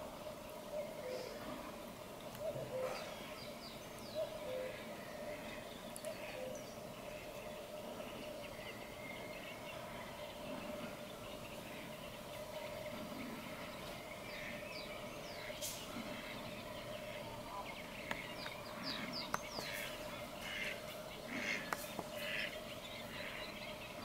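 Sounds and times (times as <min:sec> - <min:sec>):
faint steady drone: 0:00.0 - 0:24.0
birds chirping and singing: 0:00.3 - 0:24.0.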